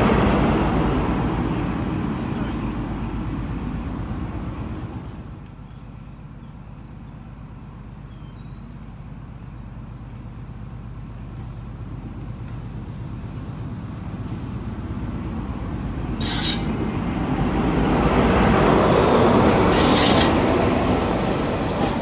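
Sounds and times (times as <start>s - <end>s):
approaching train rumble: 0.0s - 22.0s.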